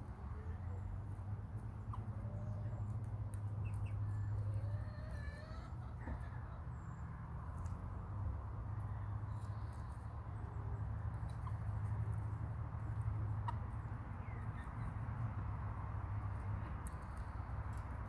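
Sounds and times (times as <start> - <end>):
hens scratching in dry dirt: 0.0 - 18.0.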